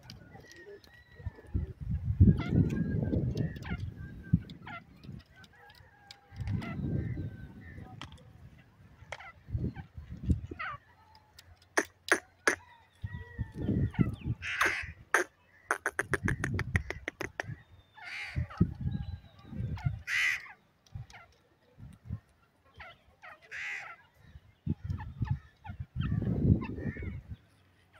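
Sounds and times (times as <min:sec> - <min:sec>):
harsh bird calls: 0:00.0 - 0:21.6, 0:22.4 - 0:27.9.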